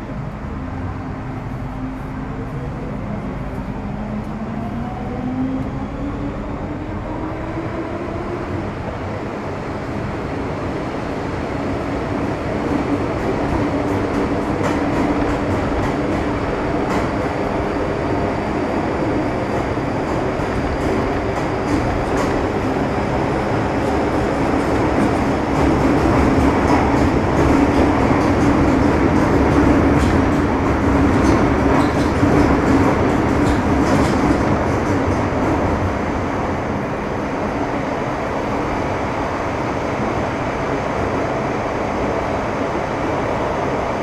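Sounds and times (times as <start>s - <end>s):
wheels rumbling on track: 0.0s - 42.6s.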